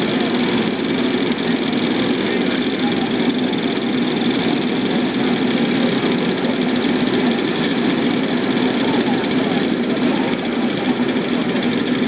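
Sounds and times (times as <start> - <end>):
go-kart engines idling: 0.0 - 12.0.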